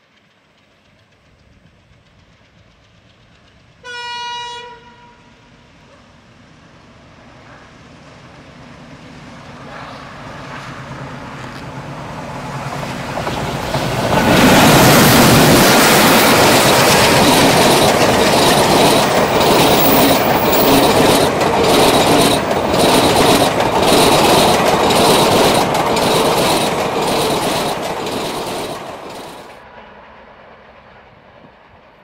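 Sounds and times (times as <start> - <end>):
train wheels clickety-clack: 0.0 - 5.0, 9.4 - 32.0.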